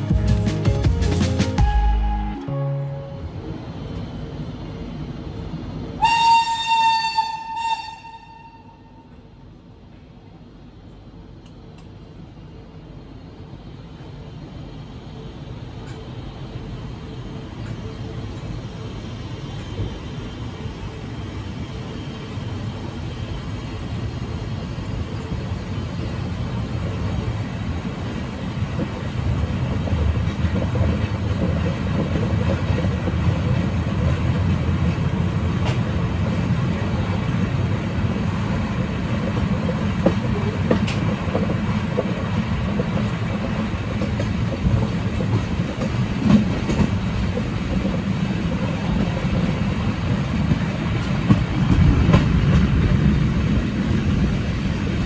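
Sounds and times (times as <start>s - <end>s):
train wheels rumbling on rails: 3.3s - 55.0s.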